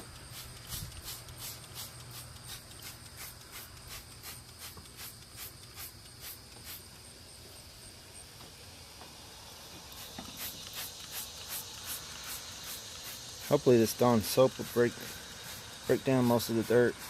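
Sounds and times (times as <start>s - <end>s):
spray bottle squirting: 0.0s - 6.9s, 9.8s - 17.0s.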